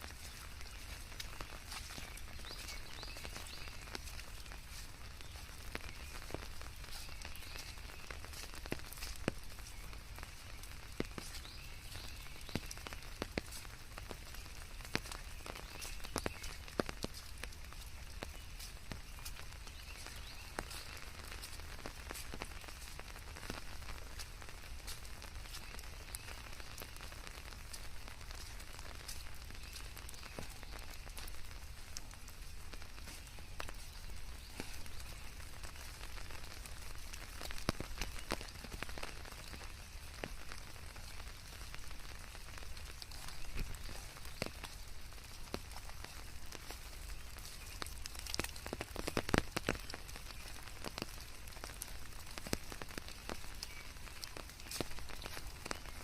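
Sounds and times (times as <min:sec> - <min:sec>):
rain hissing: 0:00.0 - 0:56.0
raindrops tapping a surface: 0:00.0 - 0:56.0.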